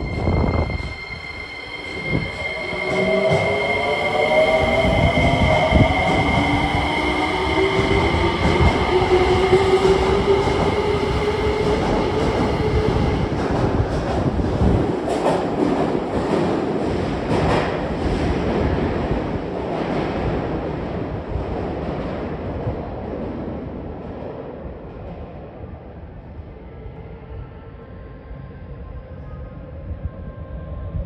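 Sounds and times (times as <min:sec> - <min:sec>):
train wheels rumbling and clacking: 0:00.0 - 0:25.6.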